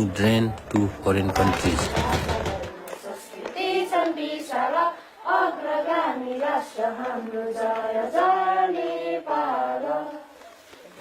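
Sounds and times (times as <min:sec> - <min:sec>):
voices singing a melody: 0:01.4 - 0:10.6.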